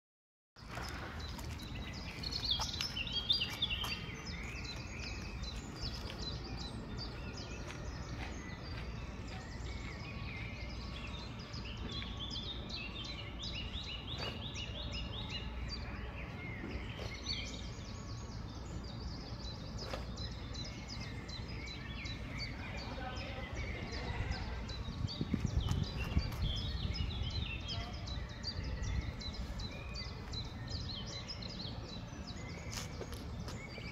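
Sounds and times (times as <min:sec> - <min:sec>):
outdoor background noise: 0:00.6 - 0:33.9
songbirds chirping: 0:00.6 - 0:33.9.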